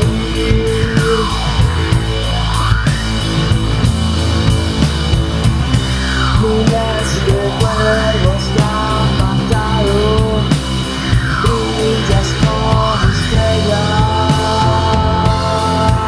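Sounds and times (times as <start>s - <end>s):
drum kit beat: 0.0s - 16.0s
rock band playing: 0.0s - 16.0s.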